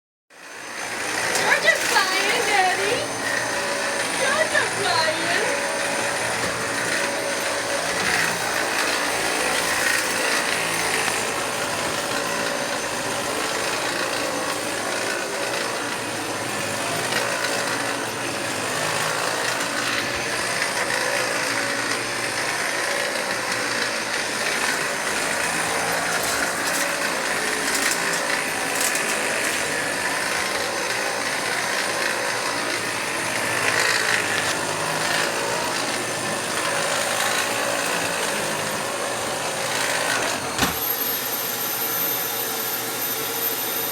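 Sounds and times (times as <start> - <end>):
vacuum cleaner running: 0.3 - 43.9.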